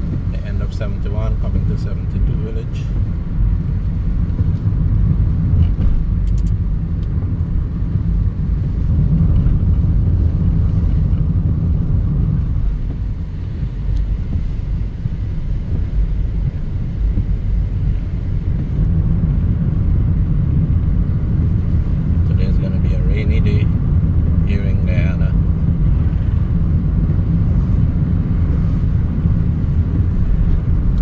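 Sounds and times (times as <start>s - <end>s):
car engine and road noise: 0.0s - 31.0s.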